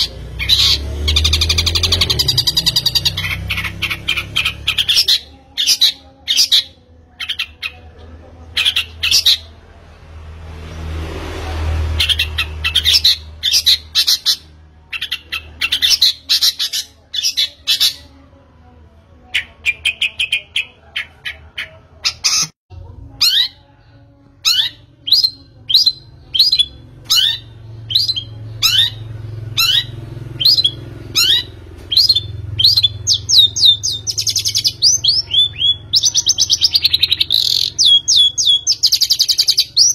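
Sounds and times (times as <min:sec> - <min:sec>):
birds chirping: 0:00.0 - 0:09.6, 0:10.7 - 0:18.2, 0:19.2 - 0:39.9.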